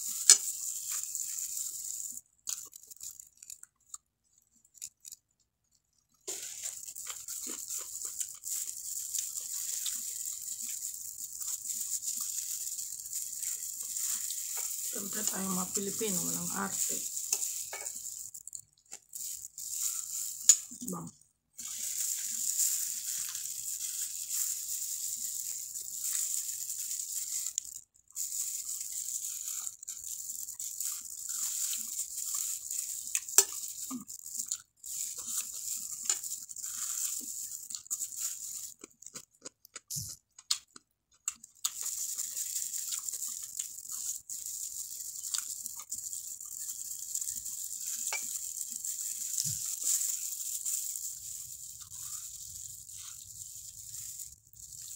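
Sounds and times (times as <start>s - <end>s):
person chewing food: 0.0s - 15.0s, 16.7s - 54.9s
plastic gloves crinkling: 0.0s - 39.6s, 41.2s - 54.9s.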